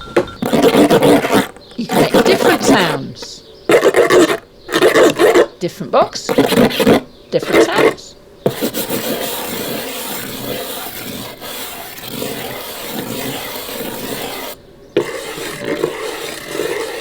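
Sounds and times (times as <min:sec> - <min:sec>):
hairbrush scraping a box: 0:00.0 - 0:05.5, 0:06.2 - 0:17.0.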